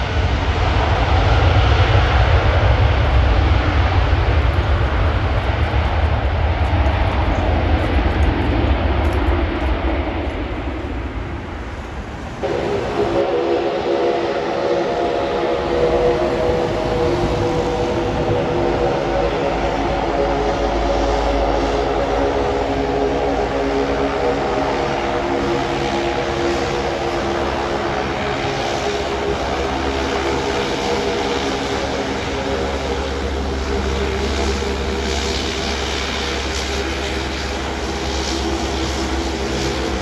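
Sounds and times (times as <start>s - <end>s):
propeller aircraft engines droning: 0.0s - 40.0s.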